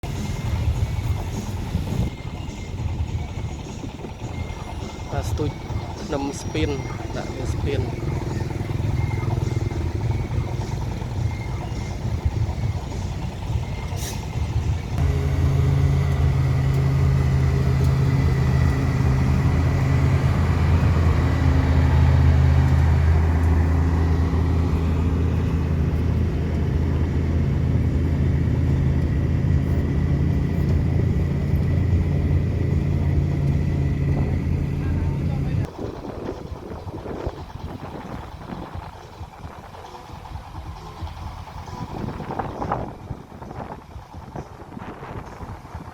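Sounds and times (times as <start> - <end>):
diesel engine droning: 0.0 - 45.9.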